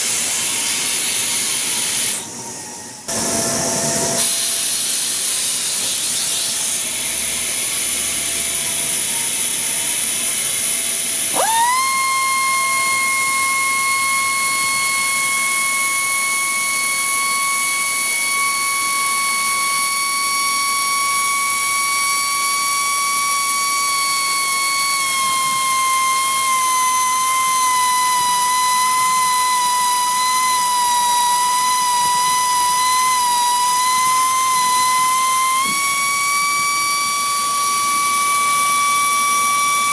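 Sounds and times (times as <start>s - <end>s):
pneumatic drill motor whining: 0.0s - 39.9s.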